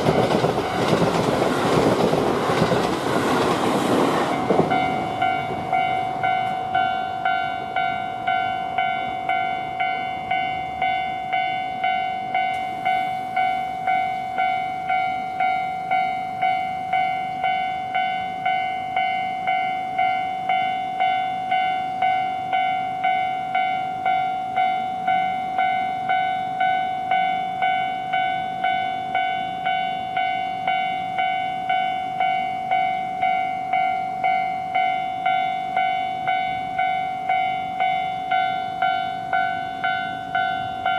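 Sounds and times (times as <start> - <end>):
passing train rumble: 0.0 - 40.9
railroad crossing bell ringing: 0.0 - 40.9.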